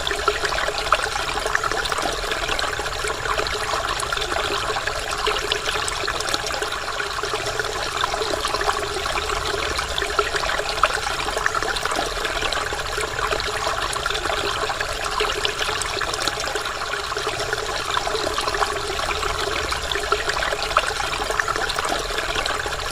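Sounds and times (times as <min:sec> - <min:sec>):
waterfall pouring and splashing: 0:00.0 - 0:22.9.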